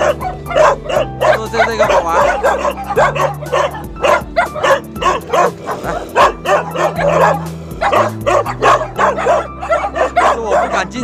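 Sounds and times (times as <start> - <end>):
background music with low notes: 0.0 - 11.0
dogs barking and yipping: 0.0 - 11.0.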